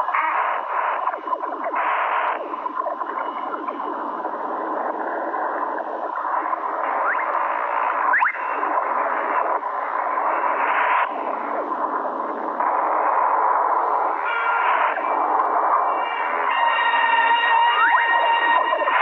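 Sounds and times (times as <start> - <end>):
underwater bubbling and gurgling: 0.0 - 16.6, 17.2 - 19.0.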